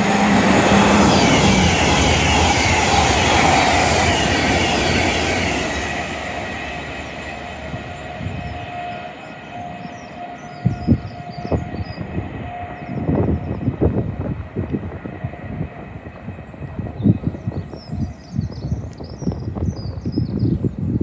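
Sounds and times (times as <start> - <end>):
train rushing past: 0.0 - 18.4.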